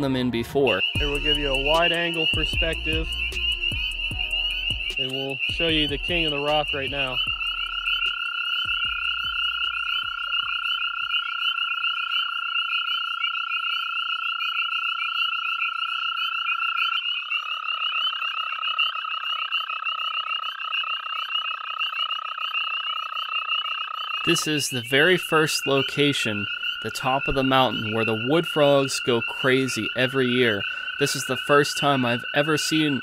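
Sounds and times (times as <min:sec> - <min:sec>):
tree frogs trilling chorus: 0:00.1 - 0:33.0.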